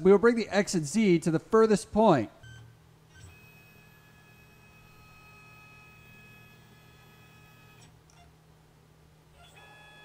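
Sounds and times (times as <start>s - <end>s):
electrical whine and hum: 0.0s - 10.0s.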